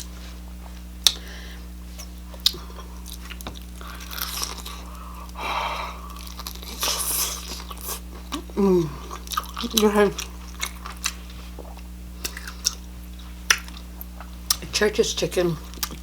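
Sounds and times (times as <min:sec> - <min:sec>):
faint electrical hum: 0:00.0 - 0:16.0
person chewing crunchy food: 0:01.0 - 0:14.7, 0:15.6 - 0:16.0.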